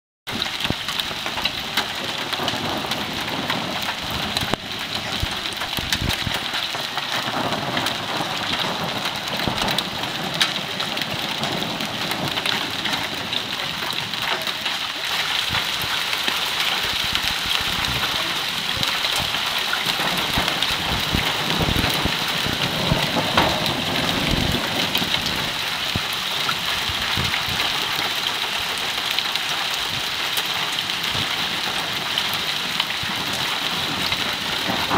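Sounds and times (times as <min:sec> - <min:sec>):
hail and heavy rain pelting: 0:00.3 - 0:34.9.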